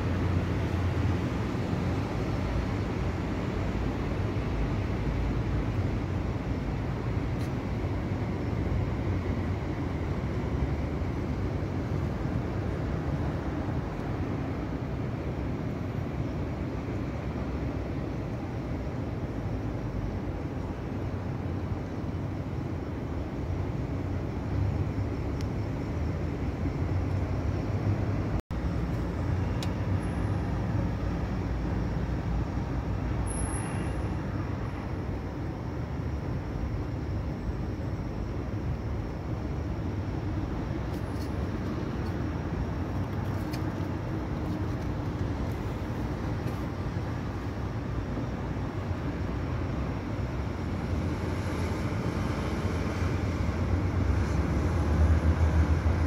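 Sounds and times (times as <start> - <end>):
distant city traffic rumble: 0.0 - 56.0.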